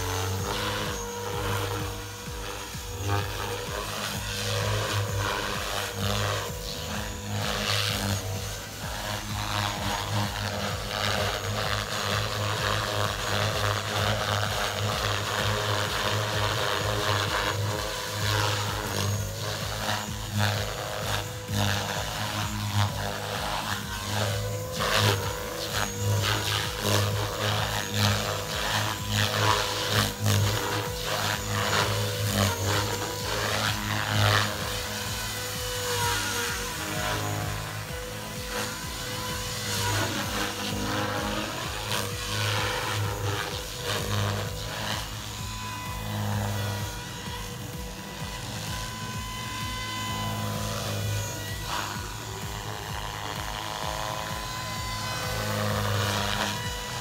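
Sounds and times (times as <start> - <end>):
rc helicopter flying: 0.0 - 57.0.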